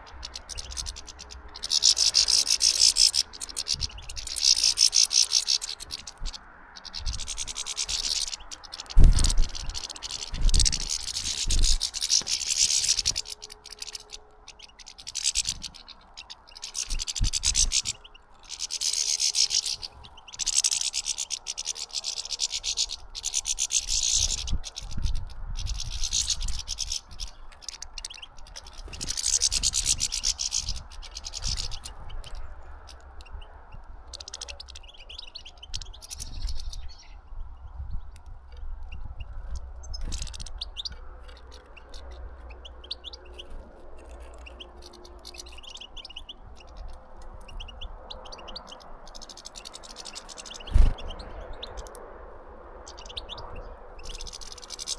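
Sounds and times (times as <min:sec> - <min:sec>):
finches twittering in trills: 0:00.0 - 0:54.9.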